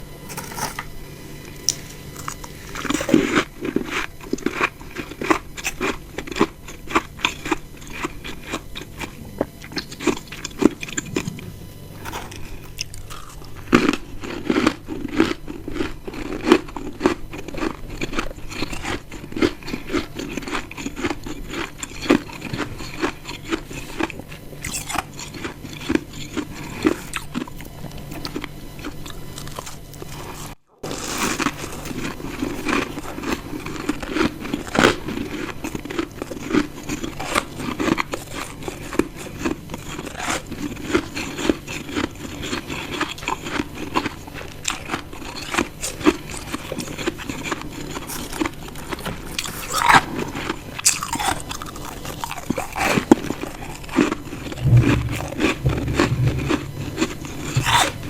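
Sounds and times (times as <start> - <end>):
chewing ice crunches: 0.3 - 0.9, 1.5 - 58.0.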